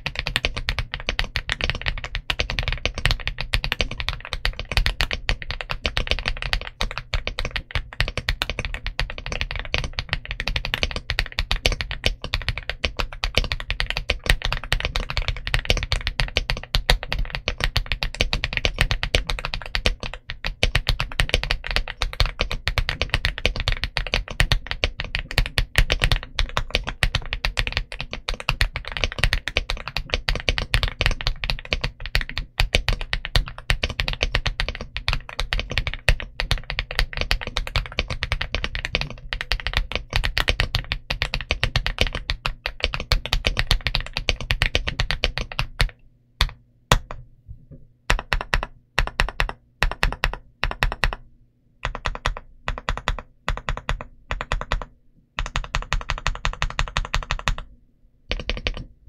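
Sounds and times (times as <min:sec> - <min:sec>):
typing on mechanical keyboard: 0:00.0 - 0:47.2, 0:48.1 - 0:51.2, 0:51.8 - 0:57.7, 0:58.3 - 0:58.9.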